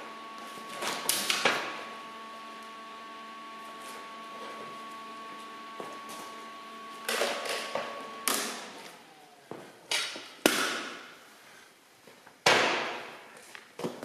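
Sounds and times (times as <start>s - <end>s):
steady hum: 0.0s - 11.9s.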